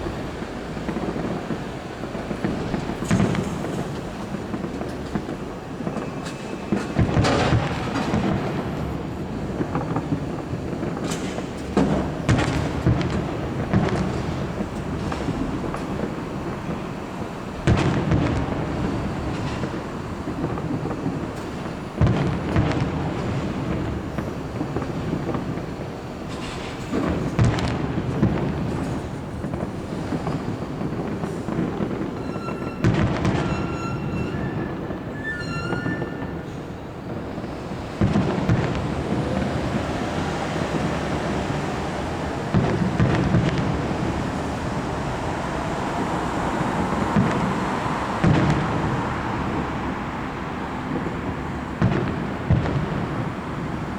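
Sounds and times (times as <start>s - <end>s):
firework shells booming: 0.0s - 53.9s
firework whistling: 0.0s - 53.9s
fireworks crackling: 0.0s - 53.9s.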